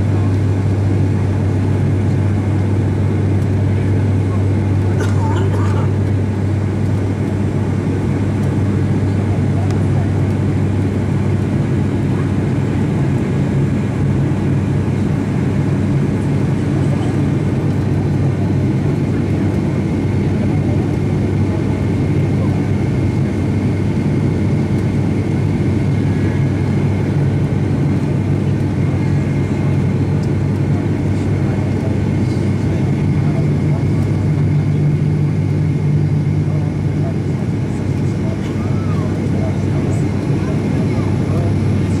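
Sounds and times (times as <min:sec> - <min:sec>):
turboprop engine drone in cabin: 0:00.0 - 0:42.0.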